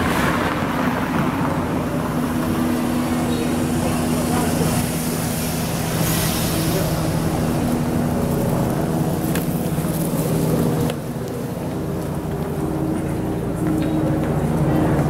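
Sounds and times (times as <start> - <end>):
car passing slowly: 0.0 - 15.0.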